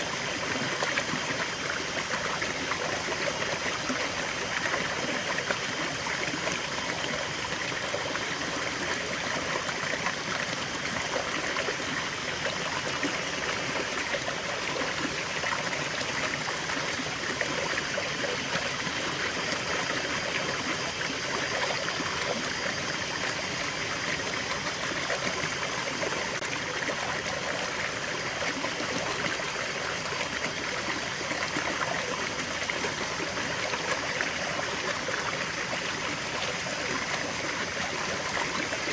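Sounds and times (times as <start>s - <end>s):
stream of water trickling: 0.0s - 38.9s.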